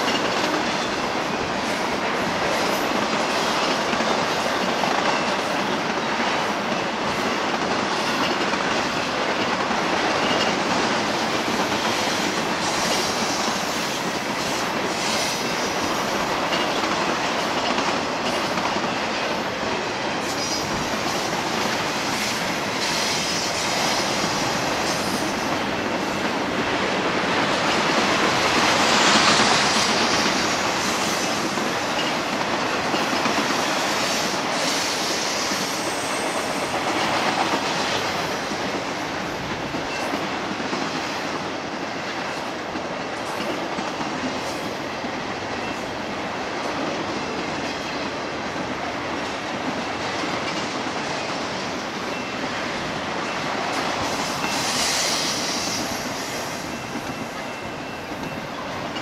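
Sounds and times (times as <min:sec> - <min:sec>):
steel wheels rolling on rail: 0:00.0 - 0:59.0.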